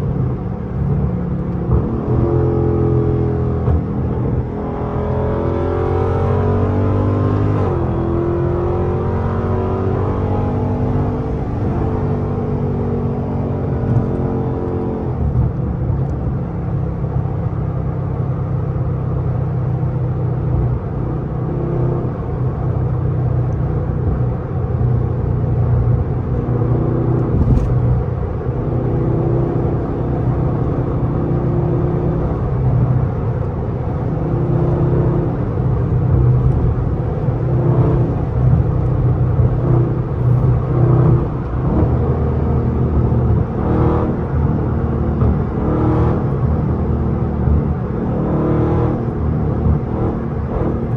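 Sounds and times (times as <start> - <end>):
car engine and exhaust: 0.0 - 50.9.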